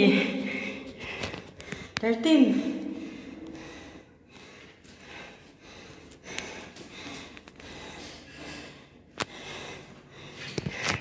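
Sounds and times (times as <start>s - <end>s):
woman panting heavily: 0.0s - 11.0s.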